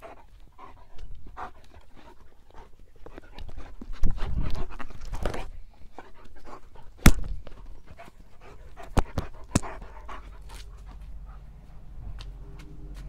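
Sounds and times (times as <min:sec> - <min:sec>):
dog panting: 0:00.0 - 0:12.9.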